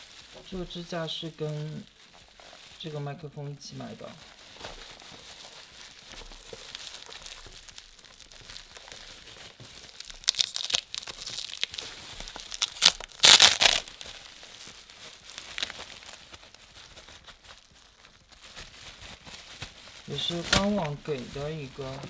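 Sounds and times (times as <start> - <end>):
packaging tearing: 0.0 - 2.9, 4.0 - 22.0
packaging crinkling: 0.0 - 22.0.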